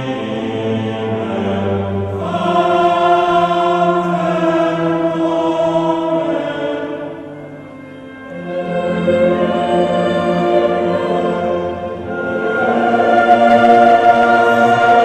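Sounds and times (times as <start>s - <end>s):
choral singing: 0.0s - 15.0s.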